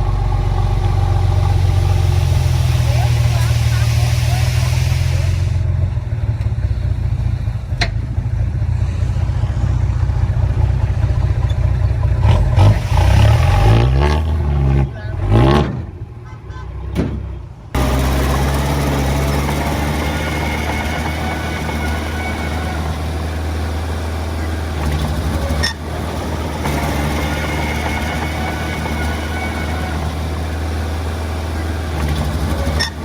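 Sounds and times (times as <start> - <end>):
diesel engine revving under load: 0.0 - 33.0.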